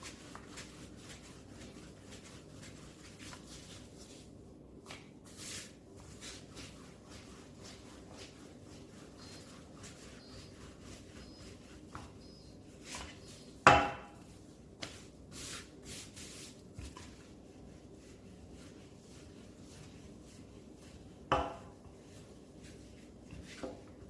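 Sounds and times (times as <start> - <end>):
rolling pin rubbing dough: 0.0 - 4.3, 4.9 - 24.0.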